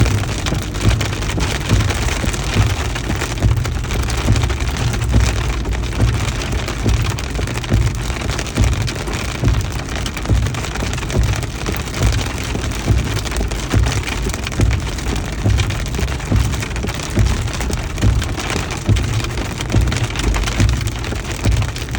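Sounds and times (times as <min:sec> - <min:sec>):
hail and rain pelting a vehicle: 0:00.0 - 0:21.9
low rumble: 0:00.0 - 0:21.9.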